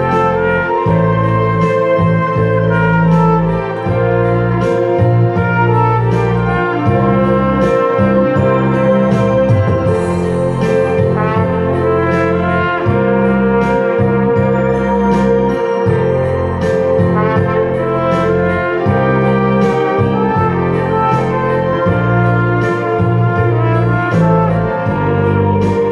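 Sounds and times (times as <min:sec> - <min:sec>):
recorded accompaniment with bass: 0:00.0 - 0:25.9
trumpet playing slow melody: 0:00.0 - 0:25.9.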